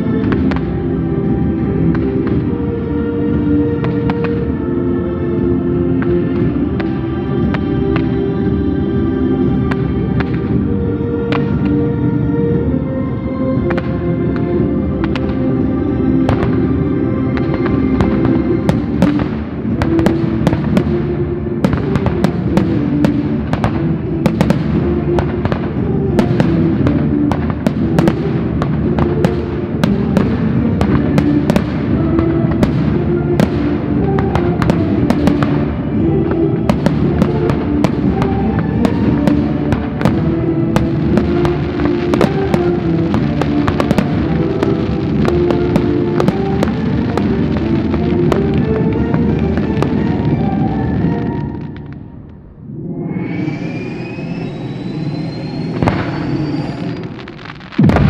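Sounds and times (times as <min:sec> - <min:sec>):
fireworks bangs and crackles: 0:00.0 - 0:52.4, 0:54.3 - 0:58.0
loud music: 0:00.0 - 0:52.9, 0:57.1 - 0:58.0.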